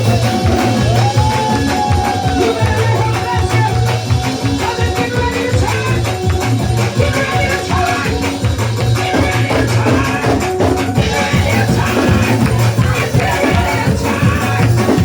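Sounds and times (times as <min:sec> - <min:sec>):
drums: 0:00.0 - 0:15.0
pulsing bass line: 0:00.0 - 0:15.0
up-tempo church praise music: 0:00.0 - 0:15.0.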